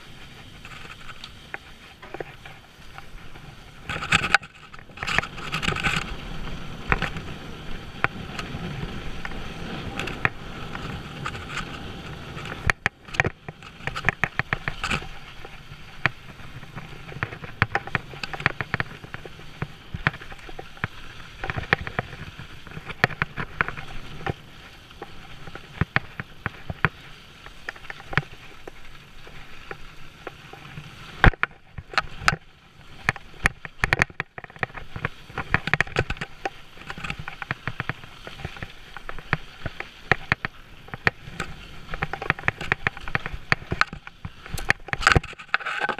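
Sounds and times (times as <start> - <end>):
bike rattling over bumps: 0.0 - 45.9
bike tyres rolling on dirt: 0.0 - 45.9.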